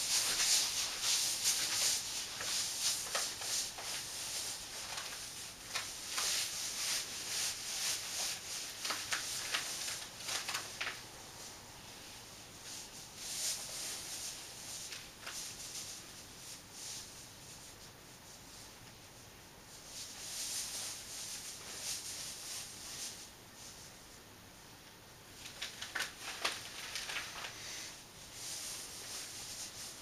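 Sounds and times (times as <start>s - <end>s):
pvc dress rustling: 0.0s - 18.8s, 19.7s - 24.1s, 25.3s - 30.0s
faint hiss: 0.0s - 30.0s.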